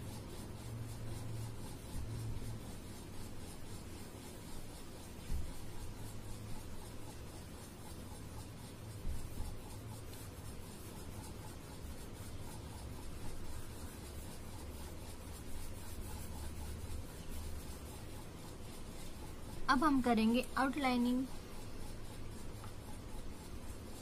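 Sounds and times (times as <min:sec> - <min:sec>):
oil pastel scribbling on paper: 0:00.0 - 0:24.0.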